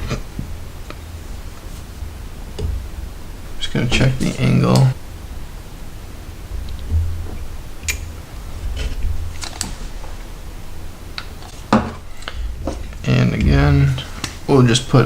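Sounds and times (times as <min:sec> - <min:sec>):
low handling rumble: 0:00.0 - 0:15.0.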